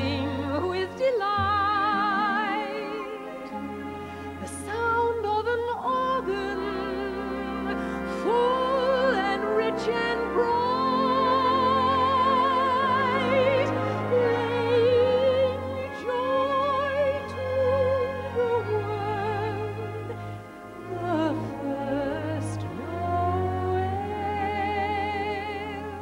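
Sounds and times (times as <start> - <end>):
soprano singing with vibrato: 0.0 - 26.0
sustained strings: 0.0 - 26.0.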